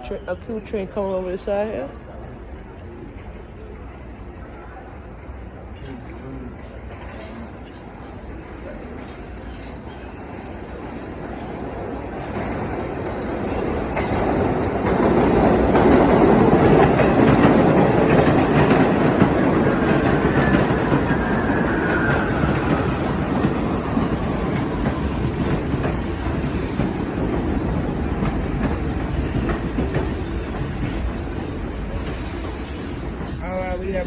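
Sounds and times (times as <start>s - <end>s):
subway train wheels clacking: 0.0s - 34.0s.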